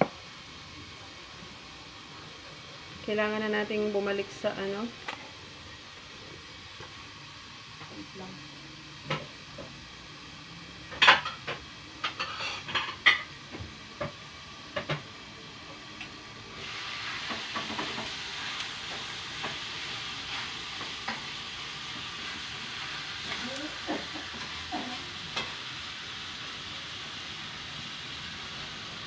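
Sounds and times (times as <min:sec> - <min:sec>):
meat sizzling in hot oil: 0:00.0 - 0:29.0.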